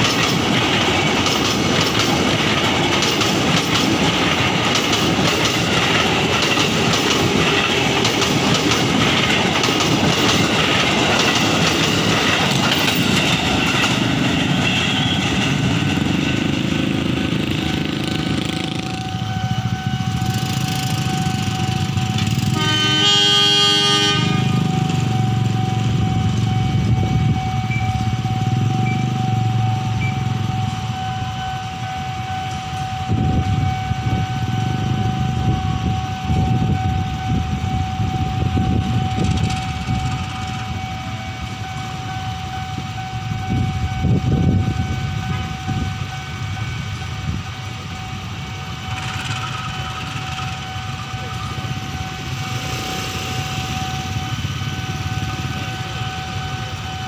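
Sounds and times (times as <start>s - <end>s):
crossing warning alarm tone: 0.0s - 57.0s
motorcycle engines idling and revving: 0.0s - 57.0s.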